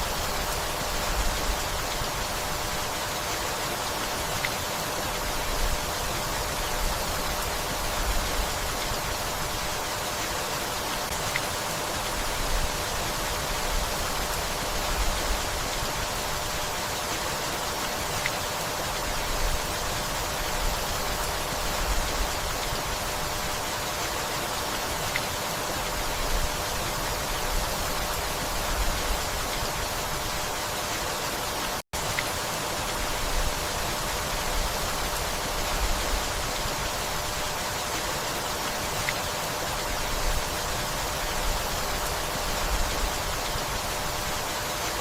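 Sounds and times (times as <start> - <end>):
steady rainfall: 0.0 - 45.0.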